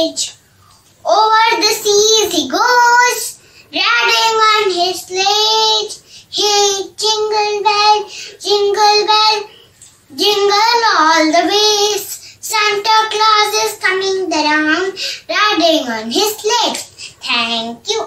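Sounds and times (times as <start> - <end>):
girl singing: 0.0 - 0.4, 1.0 - 18.0.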